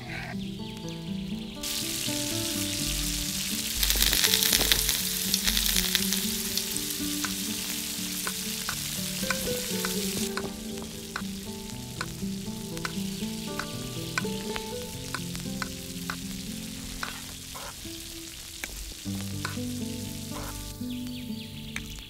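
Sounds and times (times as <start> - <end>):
hot oil sizzling in a pan: 1.6 - 21.2.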